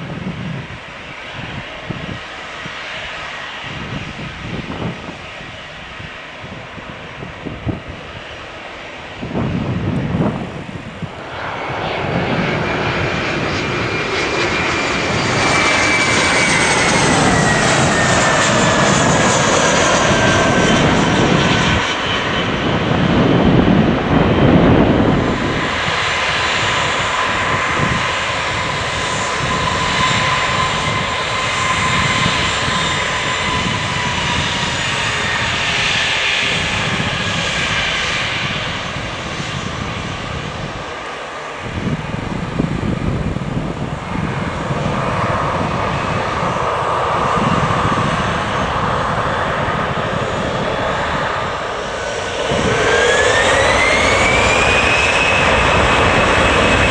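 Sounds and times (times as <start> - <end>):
jet engines passing: 0.0 - 56.9.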